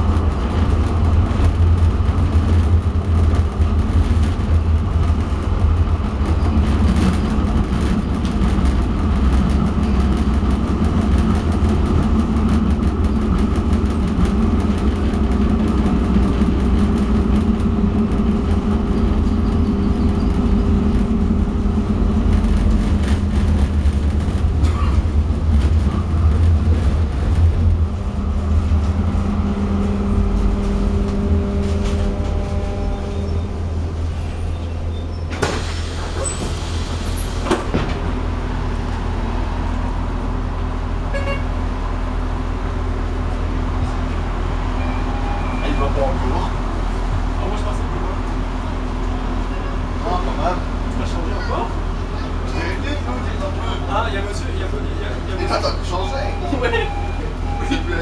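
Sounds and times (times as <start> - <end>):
tram wheels and motors rumbling: 0.0 - 58.0.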